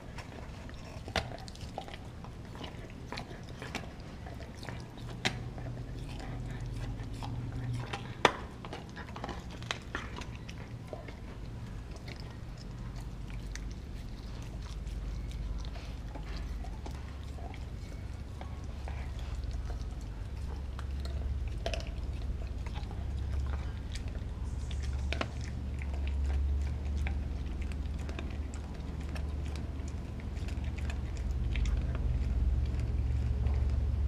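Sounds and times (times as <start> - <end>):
dog teeth biting frozen bone: 0.0 - 34.0
steady low rumble: 0.0 - 34.0.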